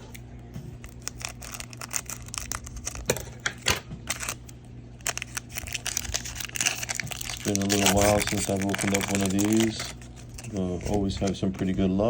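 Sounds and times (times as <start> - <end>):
plastic packaging crackling: 0.8 - 12.0
plastic packaging snapping: 0.9 - 11.7.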